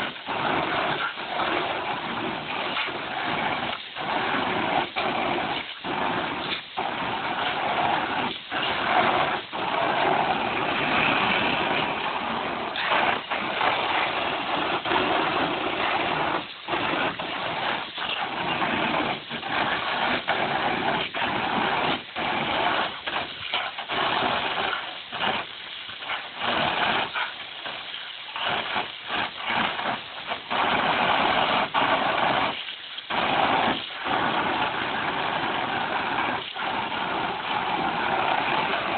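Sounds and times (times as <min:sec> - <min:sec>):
hose water spraying on plastic: 0:00.0 - 0:38.9.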